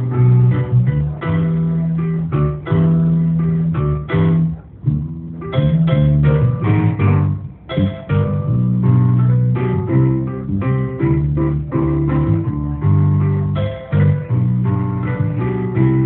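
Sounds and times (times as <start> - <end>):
electric keyboard chords: 0.0 - 16.0
plucked bass line: 0.0 - 16.0.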